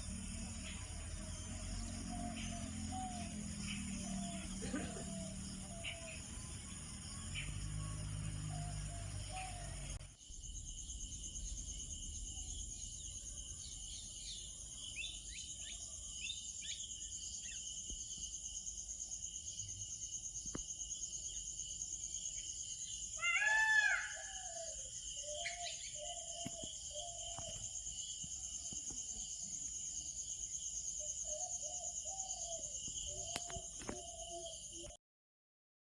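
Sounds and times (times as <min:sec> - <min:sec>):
birds chirping: 0:00.0 - 0:18.4, 0:22.4 - 0:35.0.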